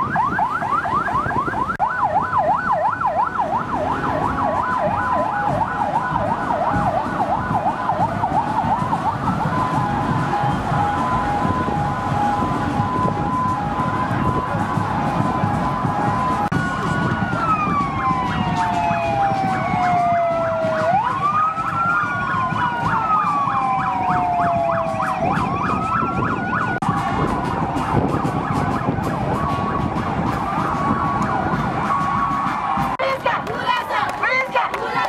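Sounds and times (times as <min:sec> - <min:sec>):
fast pulsing siren: 0:00.0 - 0:35.0
siren wailing: 0:00.0 - 0:35.0.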